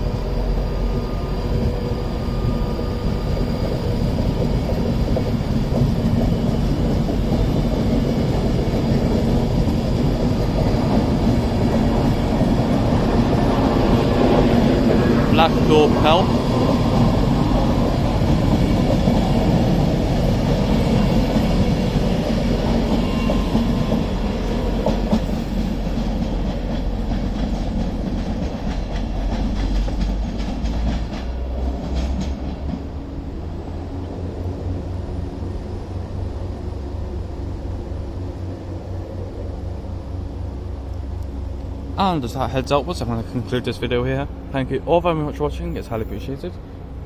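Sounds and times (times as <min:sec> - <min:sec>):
train running: 0:00.0 - 0:47.0.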